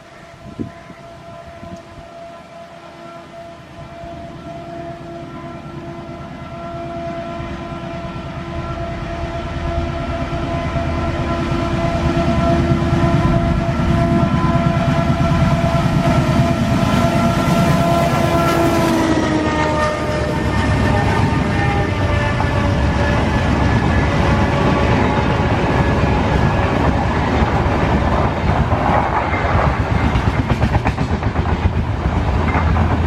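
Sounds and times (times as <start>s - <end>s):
diesel locomotive engine chugging: 0.0s - 33.0s.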